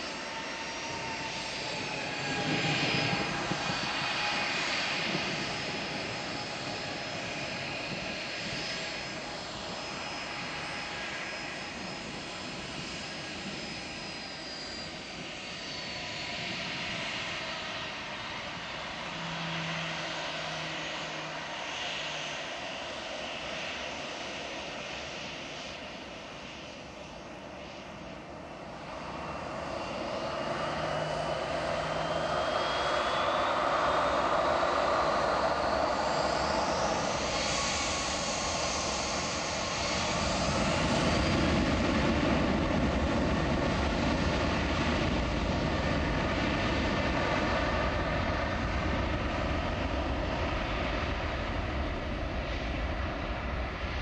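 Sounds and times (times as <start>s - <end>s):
jet engines spooling up: 0.0s - 25.8s, 26.4s - 54.0s
jet engine roar: 0.0s - 54.0s.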